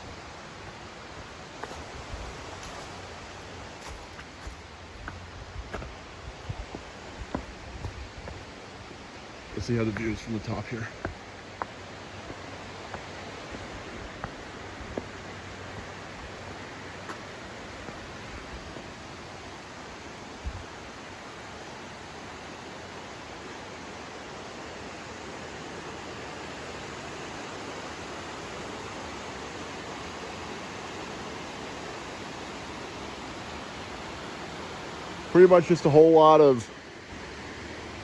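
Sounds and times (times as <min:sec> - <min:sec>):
stream flowing over rocks: 0:00.0 - 0:36.1.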